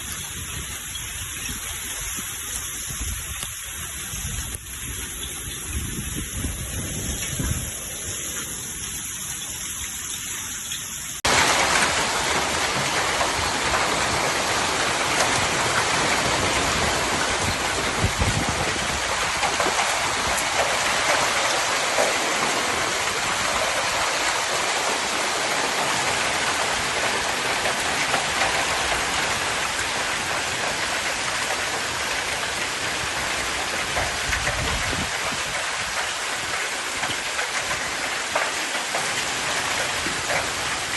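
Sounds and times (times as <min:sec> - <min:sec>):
hail and rain pelting down: 0:00.0 - 0:40.9.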